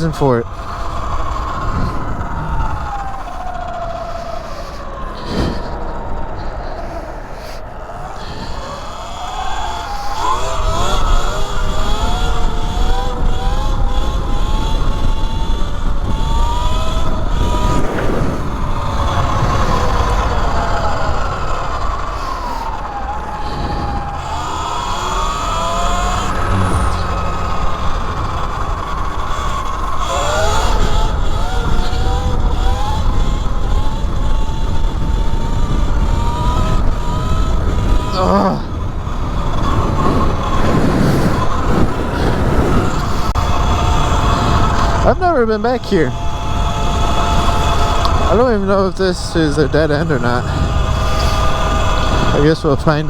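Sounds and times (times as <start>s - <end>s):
electric motor whine: 0.0s - 53.0s
wind rumble on microphone: 0.0s - 53.0s.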